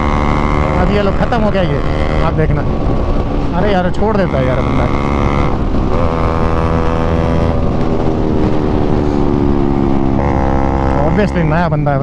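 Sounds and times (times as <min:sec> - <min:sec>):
motorcycle engine pulling hard: 0:00.0 - 0:12.0.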